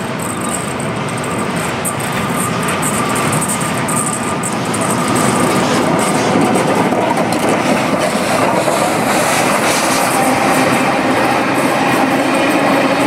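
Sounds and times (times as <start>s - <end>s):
steam train rumbling: 0.0s - 13.0s
wheels clattering over rail joints: 0.0s - 13.0s.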